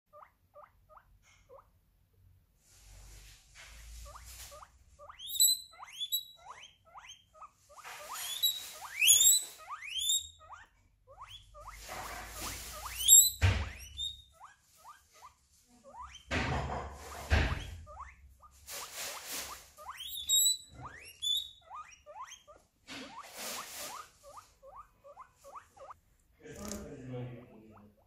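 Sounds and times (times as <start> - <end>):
guinea pig squeaking: 0.1 - 1.8, 3.8 - 28.0.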